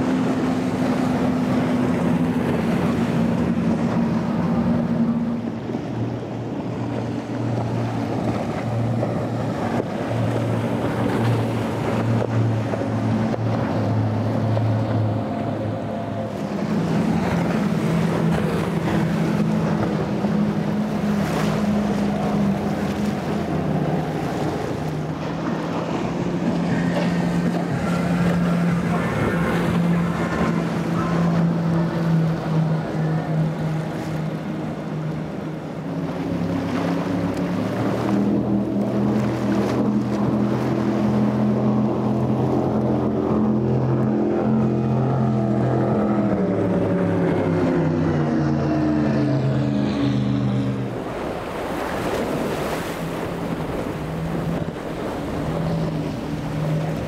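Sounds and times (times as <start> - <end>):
powerboat engines droning: 0.0 - 57.0
water rushing off hulls: 0.0 - 57.0.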